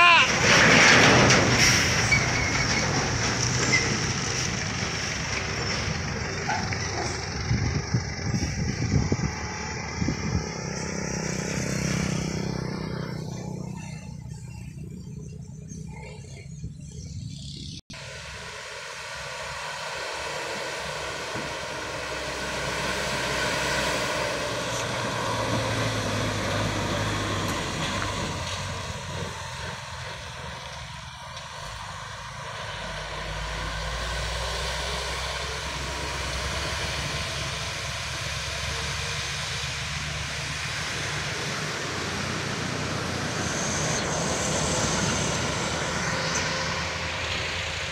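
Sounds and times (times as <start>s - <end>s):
diesel truck engines labouring: 0.0s - 47.9s.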